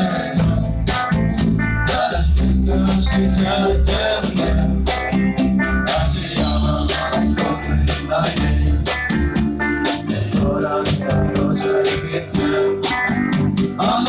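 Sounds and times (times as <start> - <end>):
band playing instrumental rock: 0.0 - 14.0.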